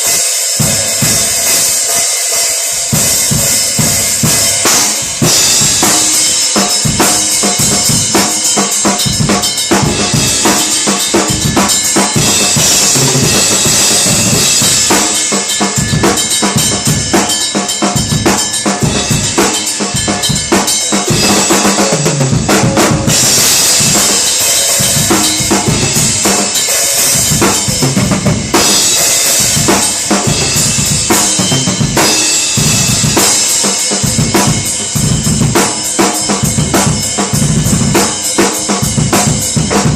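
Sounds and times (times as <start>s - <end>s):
cymbal wash: 0.0s - 39.6s
snare and bass drum: 0.0s - 39.9s.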